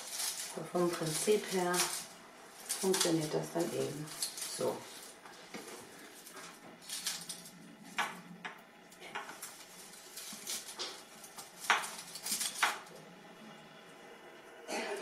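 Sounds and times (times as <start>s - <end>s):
fir sprigs scraping against wood: 0.0s - 8.1s, 8.9s - 12.9s.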